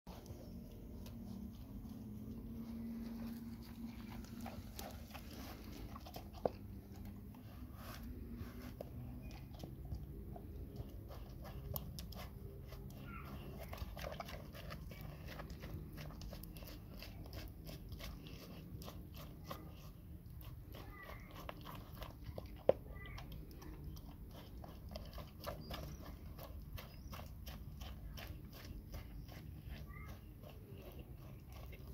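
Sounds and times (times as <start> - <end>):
dog chewing and crunching: 0.1 - 31.9.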